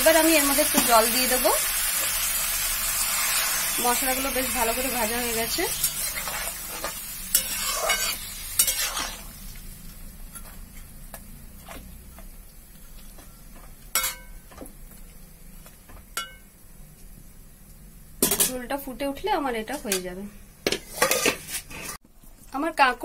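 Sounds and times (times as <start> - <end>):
curry sizzling in a metal pan: 0.0 - 16.9, 18.1 - 22.0.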